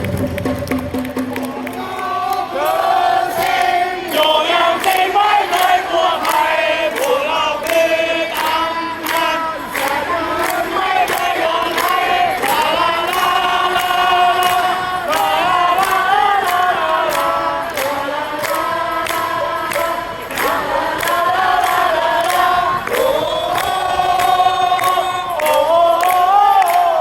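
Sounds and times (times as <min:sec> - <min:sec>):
crowd chanting in unison: 0:01.5 - 0:27.0.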